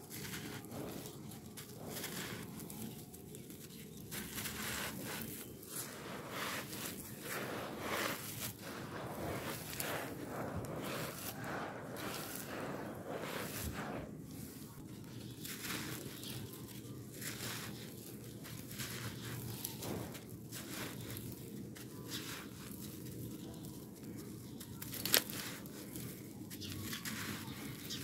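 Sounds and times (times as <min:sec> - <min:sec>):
dirt crushed between hands: 0:00.0 - 0:28.0
soil trickling down: 0:00.0 - 0:28.0.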